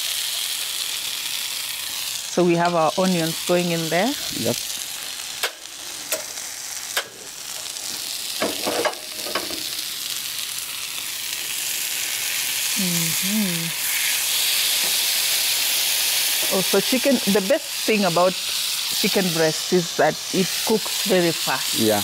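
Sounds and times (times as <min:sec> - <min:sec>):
onions sizzling in a pan: 0:00.0 - 0:22.0.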